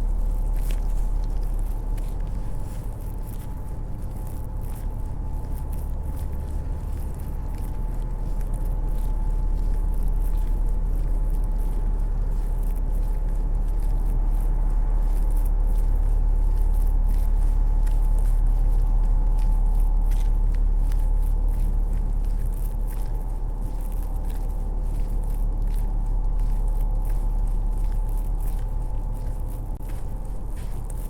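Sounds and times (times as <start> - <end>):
footsteps on snow: 0.0 - 31.0
low rumble of city traffic: 0.0 - 31.0.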